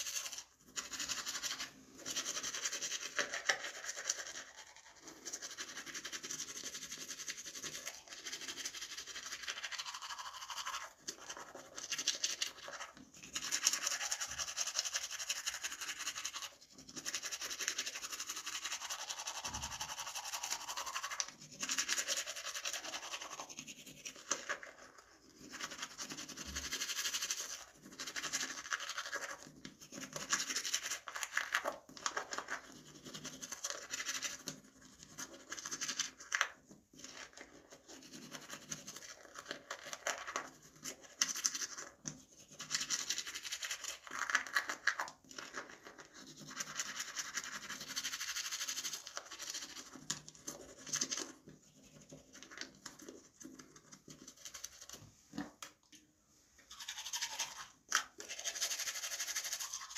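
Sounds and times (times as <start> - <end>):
toothbrush scrubbing teeth: 0.0 - 56.0, 56.6 - 59.9.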